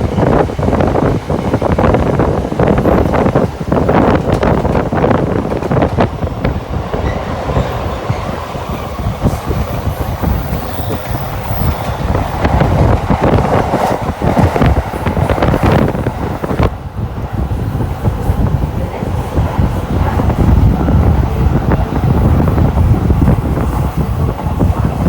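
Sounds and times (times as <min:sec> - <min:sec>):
high-speed train rushing: 0:00.0 - 0:25.0.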